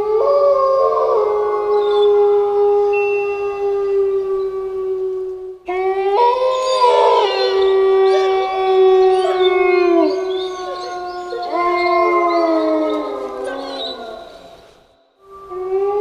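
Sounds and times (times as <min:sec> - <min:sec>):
wolves howling in chorus: 0:00.0 - 0:16.0.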